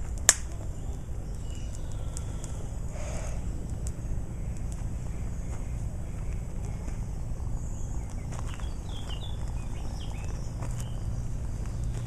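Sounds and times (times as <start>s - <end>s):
bird chirps: 0.6s - 12.0s.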